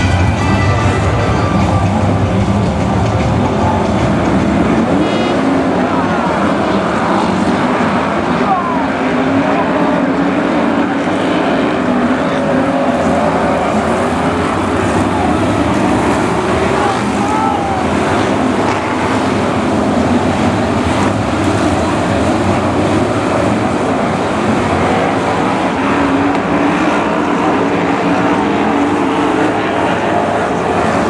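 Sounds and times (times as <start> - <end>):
racing car engines: 0.0 - 31.0.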